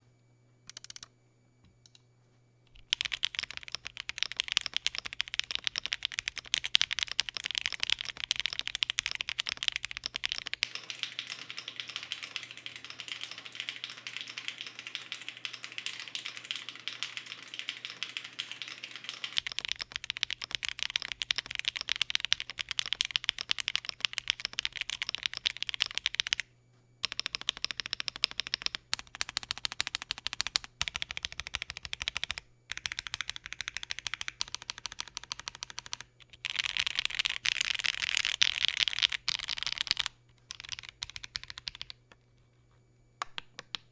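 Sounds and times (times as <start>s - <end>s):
fast typing on mechanical keyboard: 0.7s - 1.1s, 2.7s - 26.4s, 27.0s - 42.0s.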